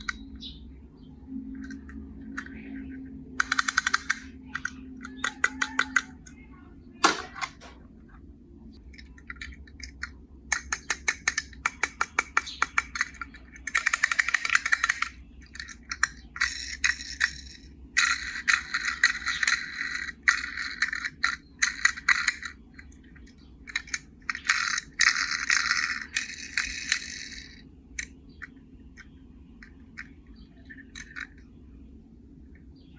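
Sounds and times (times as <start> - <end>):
toy cars rattling and scraping: 1.5 - 6.4, 8.9 - 31.5.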